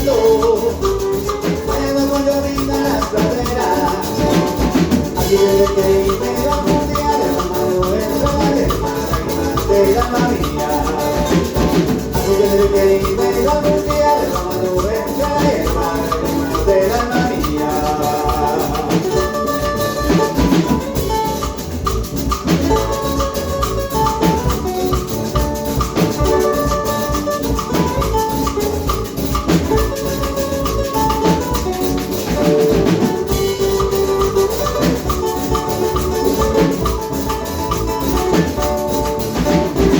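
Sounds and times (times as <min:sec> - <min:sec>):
drums and percussion: 0:00.0 - 0:39.9
latin instrumental melody: 0:00.0 - 0:39.9.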